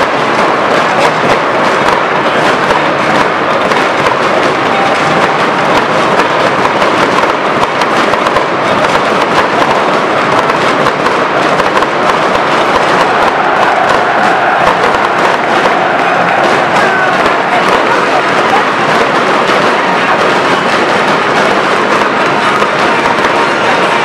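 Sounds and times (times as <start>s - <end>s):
firecrackers crackling: 0.0s - 24.0s
stadium crowd noise: 0.0s - 24.0s.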